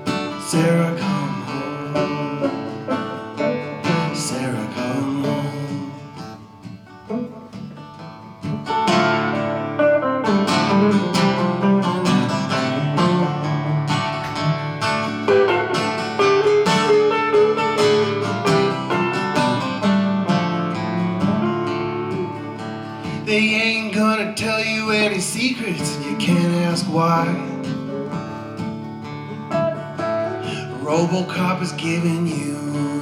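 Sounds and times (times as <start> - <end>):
acoustic guitar picking: 0.0 - 33.0.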